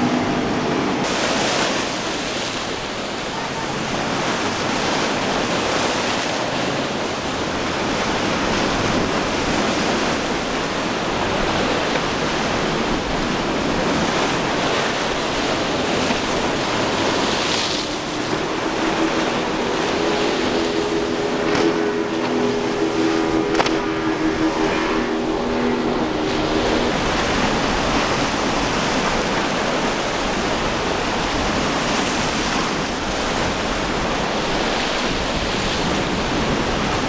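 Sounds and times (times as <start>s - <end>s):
outboard engine hum: 0.0s - 37.0s
surf breaking: 0.0s - 37.0s
wind on microphone: 0.0s - 37.0s.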